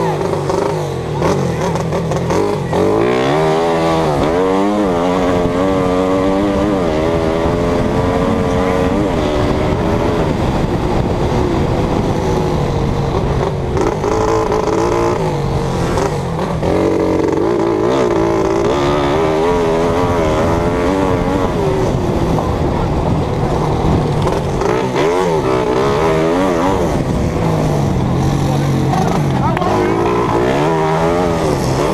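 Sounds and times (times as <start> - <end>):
racing engine revving: 0.0 - 31.9.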